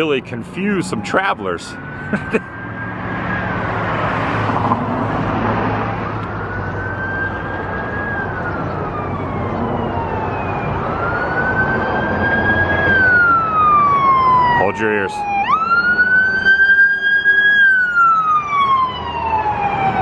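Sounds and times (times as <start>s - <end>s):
emergency siren wailing: 0.0s - 20.0s
road traffic hum: 0.0s - 20.0s.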